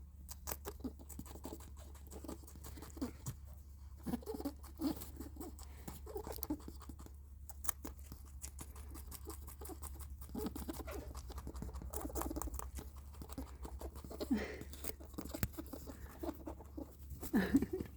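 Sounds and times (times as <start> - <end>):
rabbit squeaking: 0.0 - 17.9
steady low hum: 0.0 - 17.9.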